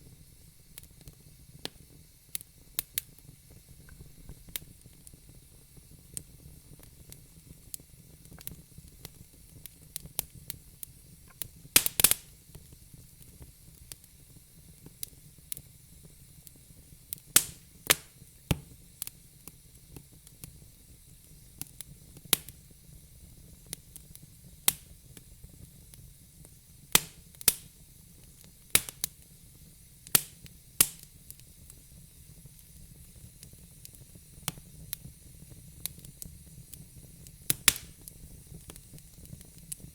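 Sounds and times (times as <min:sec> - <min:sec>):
fire low hiss: 0:00.0 - 0:39.9
fire pops and snaps: 0:00.6 - 0:15.7, 0:16.4 - 0:20.6, 0:21.2 - 0:22.7, 0:23.3 - 0:29.4, 0:30.0 - 0:39.9.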